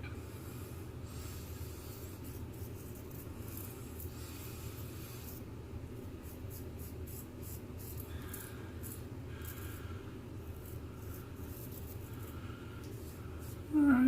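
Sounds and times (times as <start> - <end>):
razor scraping stubble: 1.4 - 5.5, 6.2 - 14.0.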